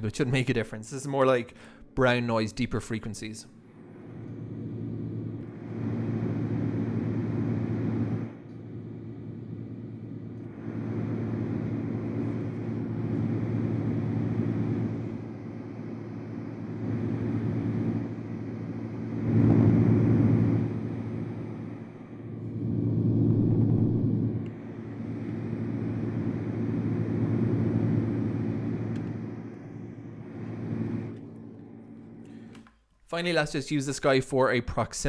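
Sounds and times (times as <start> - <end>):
noise machine brown noise hiss: 0.0 - 32.6.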